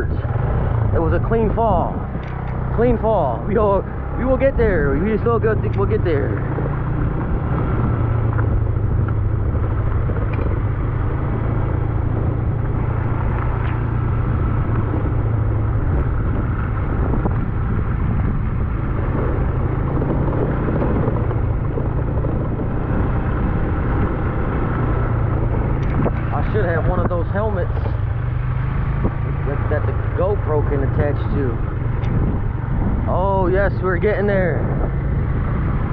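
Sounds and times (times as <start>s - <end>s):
motorcycle engine droning: 0.0s - 35.9s
wind and road noise: 0.0s - 35.9s.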